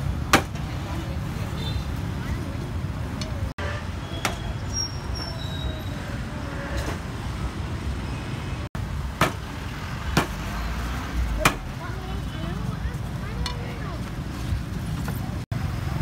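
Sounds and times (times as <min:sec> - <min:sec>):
street traffic rumbling: 0:00.0 - 0:16.0.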